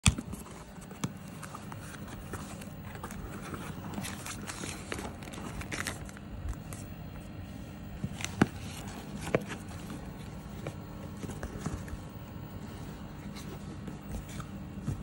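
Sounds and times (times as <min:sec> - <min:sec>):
cardboard packaging handled: 0:00.1 - 0:06.9, 0:08.0 - 0:15.0.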